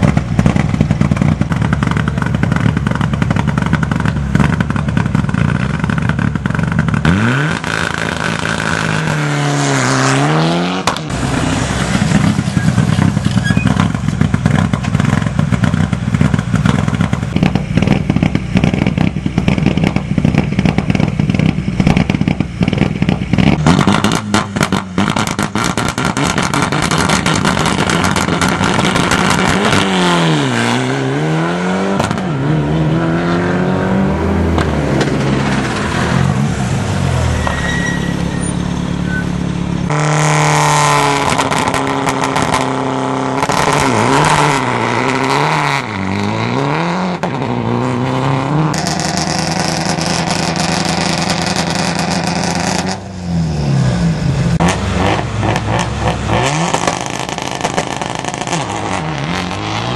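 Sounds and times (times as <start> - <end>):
rally car engine revving: 0.0 - 59.9
second rally car engine: 0.0 - 59.9.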